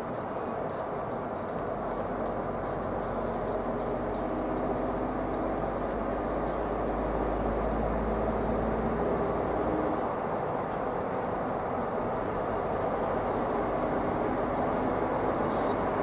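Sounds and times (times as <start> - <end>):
diesel engine drone in cabin: 0.0 - 16.0
tyre and road noise: 0.0 - 16.0.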